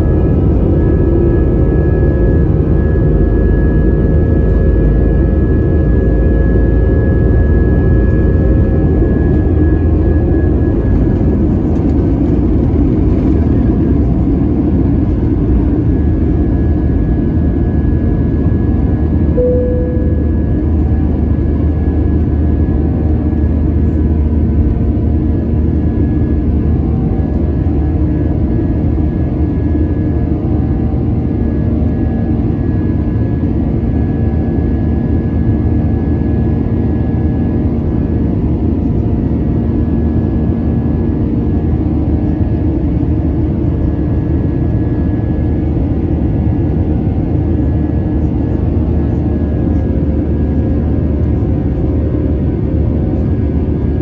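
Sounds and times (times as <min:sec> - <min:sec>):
jet engine rumble in cabin: 0:00.0 - 0:54.0.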